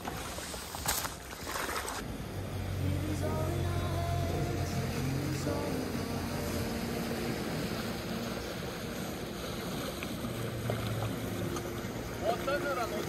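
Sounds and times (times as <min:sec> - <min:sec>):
boat engine humming: 0:00.0 - 0:13.0
waves washing: 0:00.0 - 0:13.0
wind: 0:00.0 - 0:13.0.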